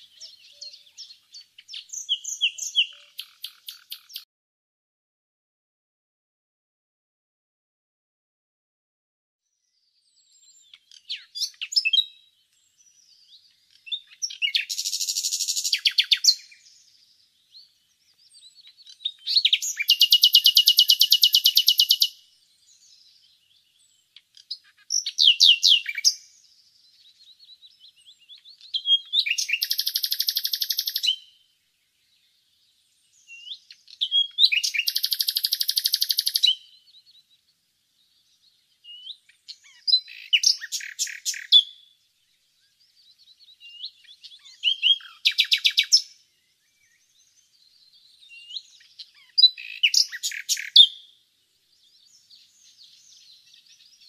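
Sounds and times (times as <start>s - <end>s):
nightingale singing: 0.0s - 4.3s, 9.4s - 54.0s.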